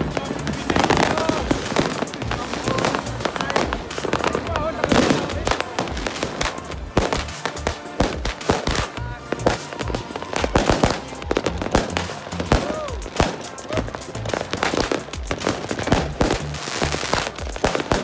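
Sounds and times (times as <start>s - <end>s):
fireworks crackling: 0.0s - 18.0s
fireworks popping and banging: 0.0s - 18.0s.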